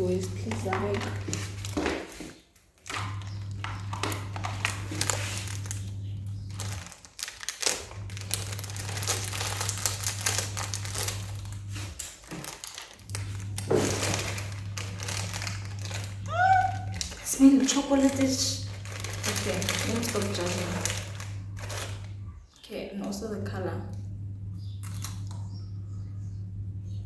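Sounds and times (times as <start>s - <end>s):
plastic packaging crinkling: 0.1s - 22.2s
low hum: 2.9s - 6.9s, 7.6s - 12.0s, 12.7s - 22.4s, 23.1s - 27.0s.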